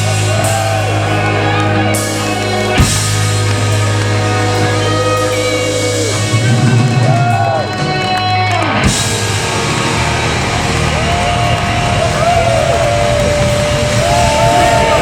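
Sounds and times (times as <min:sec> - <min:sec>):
guitar melody with bending notes: 0:00.0 - 0:15.0
live rock band playing: 0:00.0 - 0:15.0.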